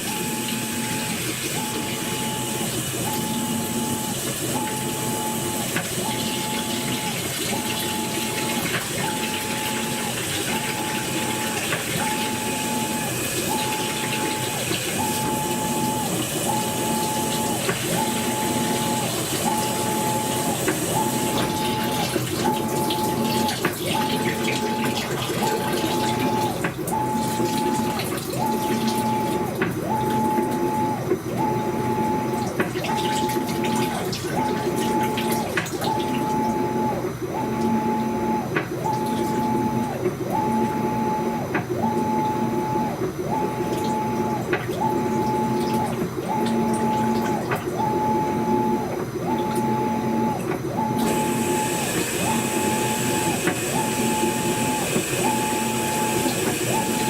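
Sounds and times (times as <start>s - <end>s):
washing machine drive whining: 0.0s - 57.0s.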